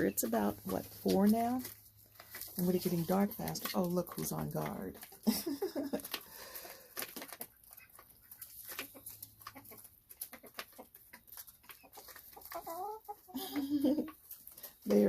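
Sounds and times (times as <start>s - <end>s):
chickens clucking: 0.0s - 14.8s.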